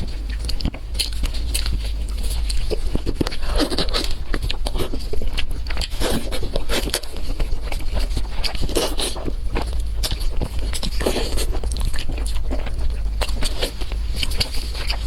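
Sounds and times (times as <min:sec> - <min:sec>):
person chewing crunchy food: 0:00.0 - 0:15.0
steady low hum: 0:00.0 - 0:15.0.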